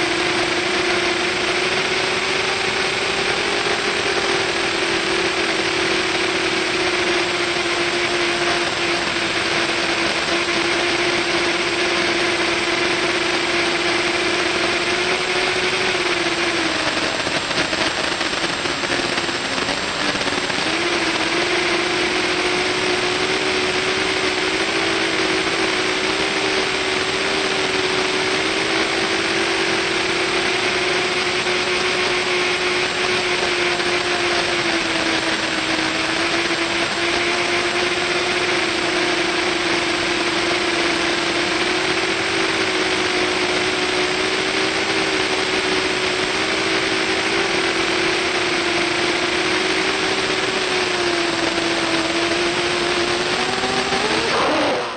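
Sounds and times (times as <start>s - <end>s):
quadcopter motors buzzing whine: 0.0s - 54.9s.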